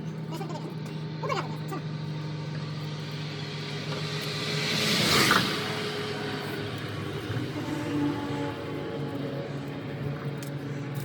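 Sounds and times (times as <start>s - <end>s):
vehicle passing on highway: 0.0s - 11.0s.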